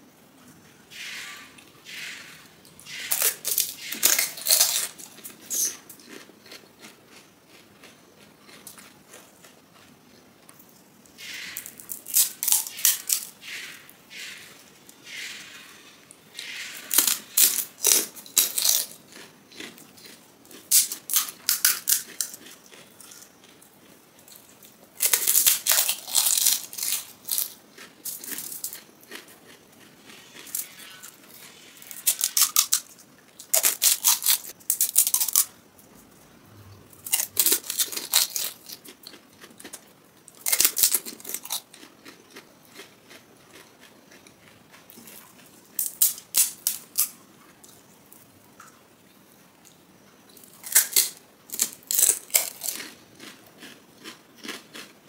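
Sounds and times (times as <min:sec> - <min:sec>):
crisp shells crunching in mouth: 0:02.9 - 0:10.0, 0:11.2 - 0:14.2, 0:16.4 - 0:35.5, 0:37.0 - 0:47.8, 0:50.4 - 0:55.0.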